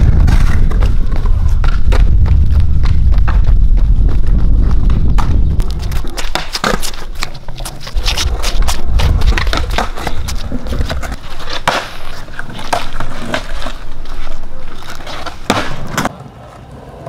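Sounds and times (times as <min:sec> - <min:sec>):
skateboard wheels clacking over joints: 0:00.0 - 0:17.0
skateboard wheels rumbling: 0:00.0 - 0:17.0.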